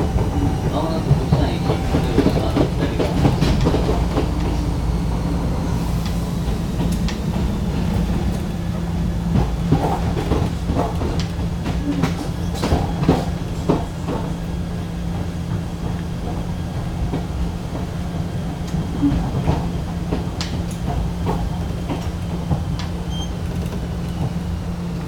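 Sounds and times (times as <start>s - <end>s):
electric train rumbling: 0.0s - 25.0s
wheels clicking over rails: 0.0s - 25.0s.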